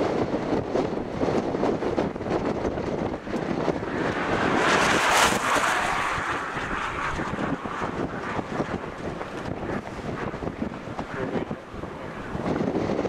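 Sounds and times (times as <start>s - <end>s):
wind buffeting microphone: 0.0s - 13.0s
passing vehicle road noise: 1.0s - 13.0s.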